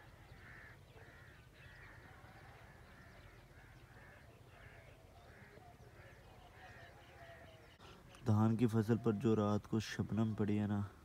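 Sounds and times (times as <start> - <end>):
distant birds calling: 0.0 - 11.0.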